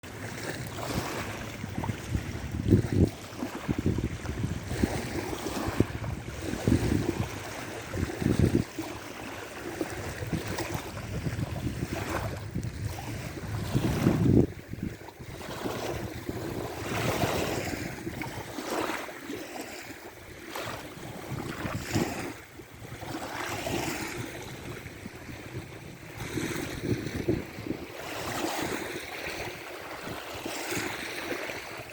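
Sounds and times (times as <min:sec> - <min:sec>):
waves washing: 0:00.0 - 0:31.9
wind rumbling on microphone: 0:00.1 - 0:31.9.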